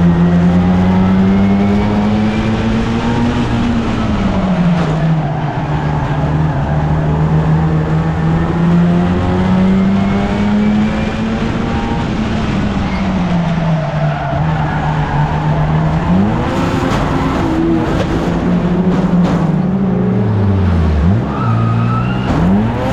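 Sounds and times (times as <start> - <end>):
racing car engine revving: 0.0 - 22.9.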